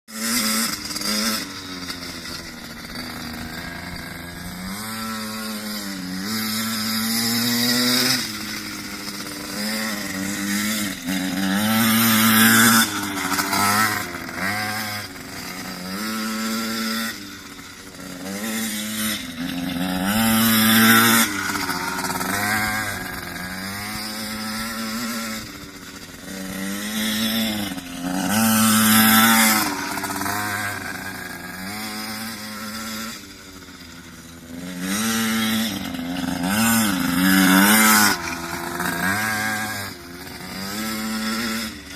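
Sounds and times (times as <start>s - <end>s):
pit bike engine revving: 0.1s - 41.9s.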